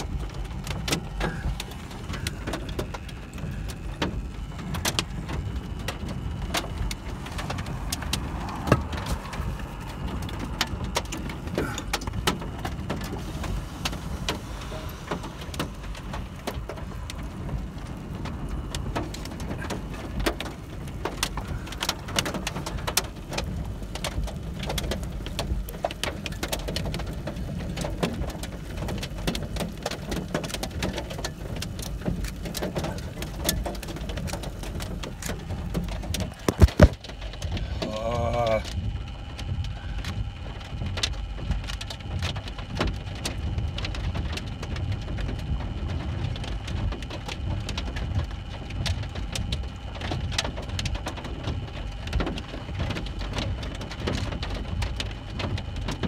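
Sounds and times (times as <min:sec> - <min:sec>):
low vehicle rumble: 0:00.0 - 0:56.0
raindrops ticking on a car: 0:00.0 - 0:56.0.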